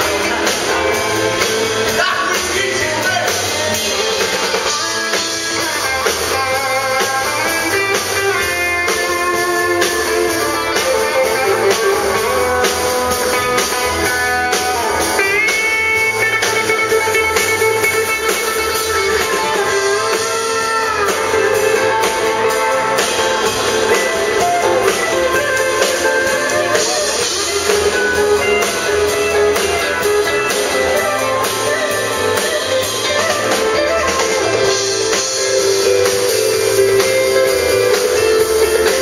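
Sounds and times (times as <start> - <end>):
country band playing: 0.0 - 39.0.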